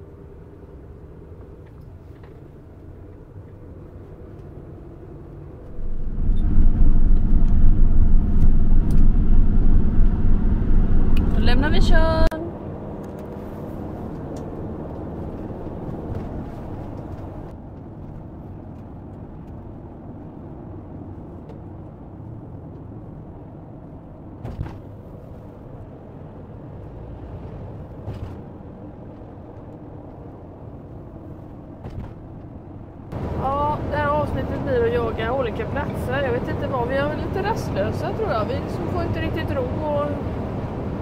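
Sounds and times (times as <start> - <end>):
engine and road rumble: 0.0 - 41.0.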